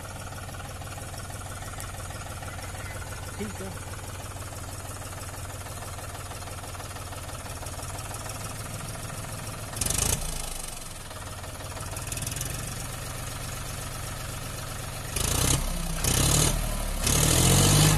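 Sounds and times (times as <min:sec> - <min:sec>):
tractor diesel engine idling: 0:00.0 - 0:17.9.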